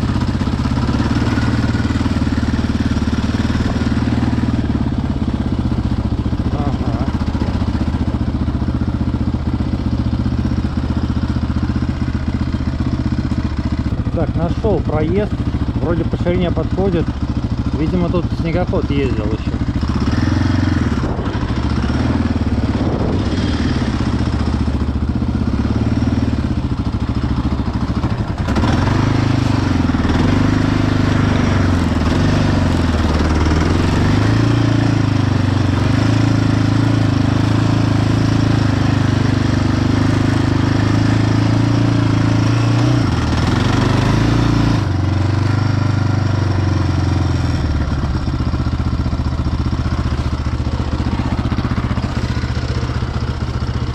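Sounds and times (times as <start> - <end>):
quad bike engine revving: 0.0 - 53.9.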